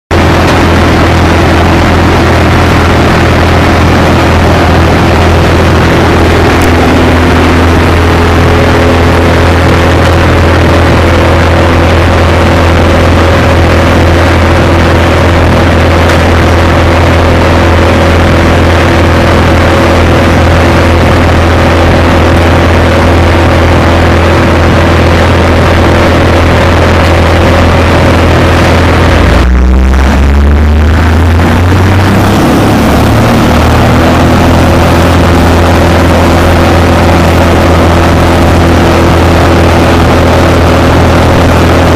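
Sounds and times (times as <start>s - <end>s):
wood chipper chipping tree: 0.1s - 41.9s.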